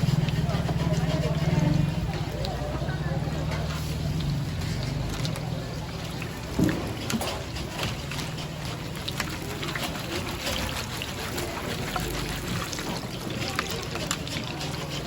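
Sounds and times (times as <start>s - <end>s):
utensils and cookware clinking: 0.0s - 15.0s.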